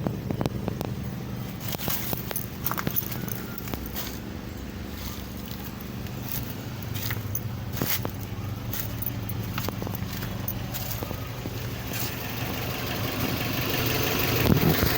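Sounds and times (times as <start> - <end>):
car engine idling: 0.0 - 14.9
sharp engine clicks and ticks: 0.0 - 14.9.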